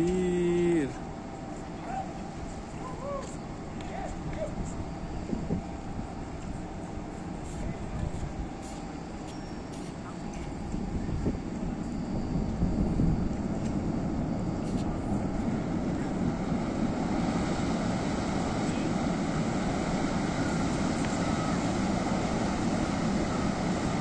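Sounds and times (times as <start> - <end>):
cruise ship low rumble: 0.0 - 24.0.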